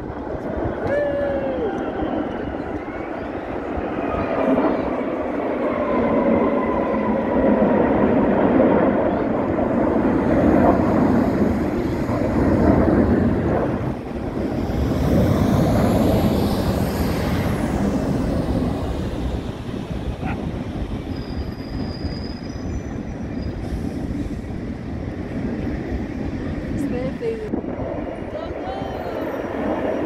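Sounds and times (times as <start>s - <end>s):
jet engines roaring overhead: 0.0s - 30.0s.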